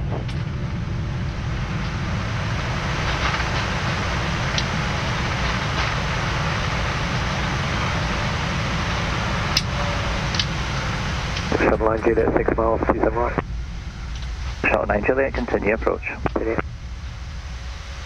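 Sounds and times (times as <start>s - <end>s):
airplane cockpit rumble: 0.0s - 18.0s.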